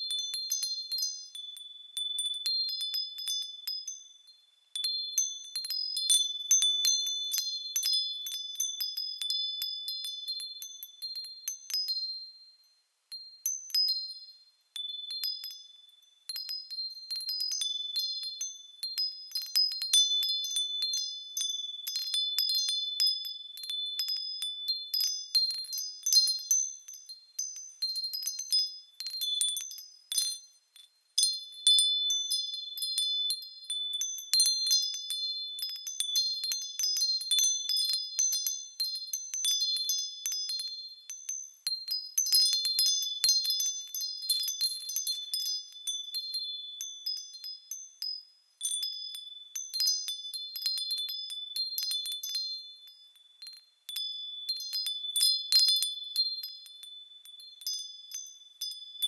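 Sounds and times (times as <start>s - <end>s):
small bells ringing: 0.0s - 59.0s.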